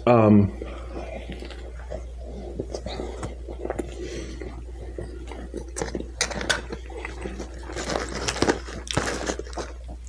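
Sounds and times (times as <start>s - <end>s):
close chewing with wet mouth noises: 0.5s - 10.0s.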